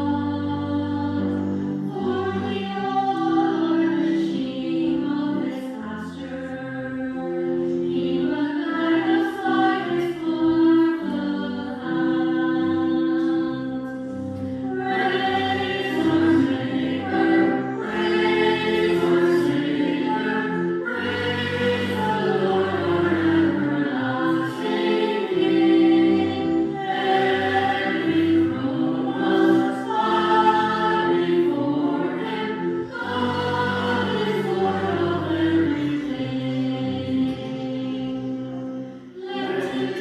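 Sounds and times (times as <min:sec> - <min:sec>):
church choir singing: 0:00.0 - 0:40.0.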